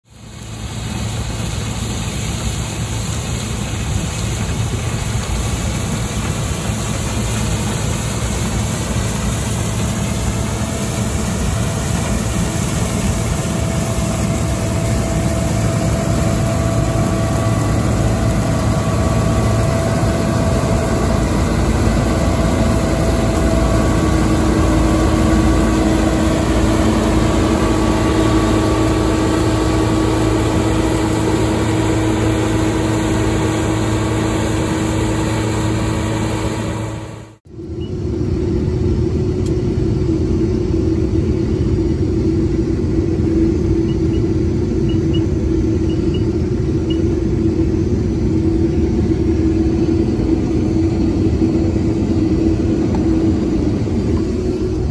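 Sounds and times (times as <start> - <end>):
high steady whine: 0.0 - 54.9
combine harvester engine drone: 0.1 - 54.9.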